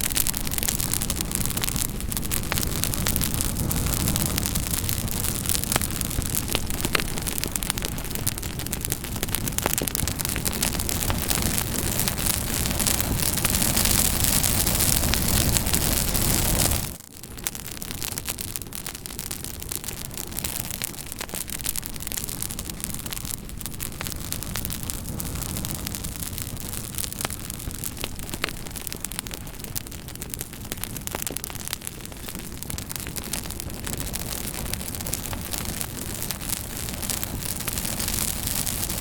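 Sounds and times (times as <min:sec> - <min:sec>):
campfire crackling: 0:00.0 - 0:39.0
fire popping: 0:00.0 - 0:39.0.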